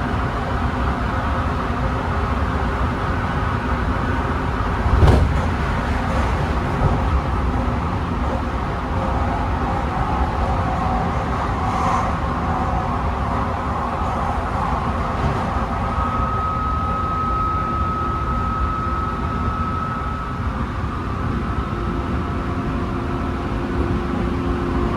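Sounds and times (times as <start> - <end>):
electric train rumbling inside: 0.0 - 24.9.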